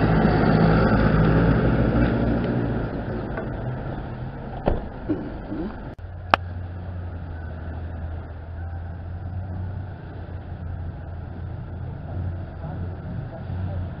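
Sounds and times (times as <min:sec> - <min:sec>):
car engine pulling away: 0:00.0 - 0:14.0
low engine hum: 0:00.0 - 0:14.0.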